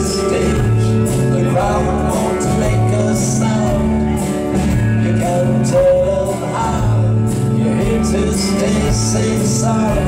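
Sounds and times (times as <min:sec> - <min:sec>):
live country band playing: 0:00.0 - 0:10.0
man singing: 0:00.0 - 0:10.0.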